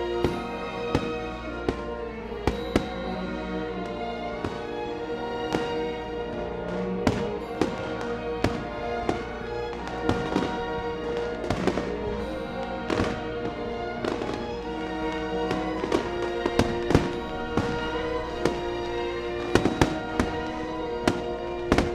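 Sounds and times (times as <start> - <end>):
music with long held notes: 0.0 - 21.9
fireworks bangs and pops: 0.2 - 4.7, 5.5 - 21.9.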